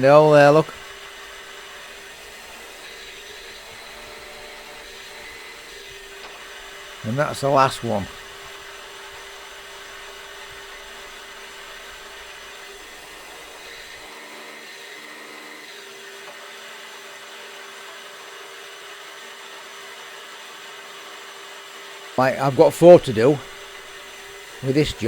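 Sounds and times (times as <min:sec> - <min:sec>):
drill motor humming: 0:00.0 - 0:25.0.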